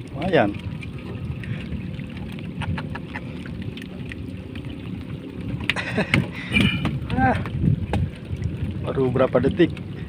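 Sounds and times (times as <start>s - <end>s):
wind and water rumble: 0.0s - 10.0s.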